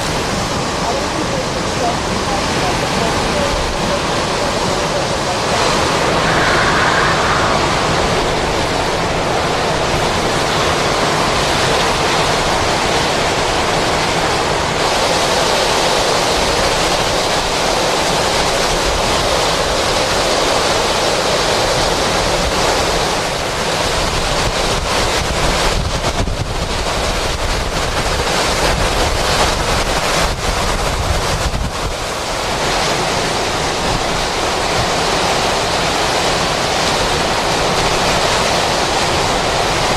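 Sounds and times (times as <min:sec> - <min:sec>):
strong wind buffeting microphone: 0:00.0 - 0:39.9.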